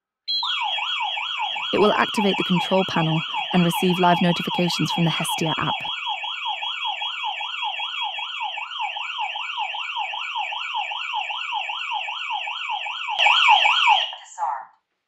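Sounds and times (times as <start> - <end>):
warbling electronic alarm siren: 0.3 - 14.2.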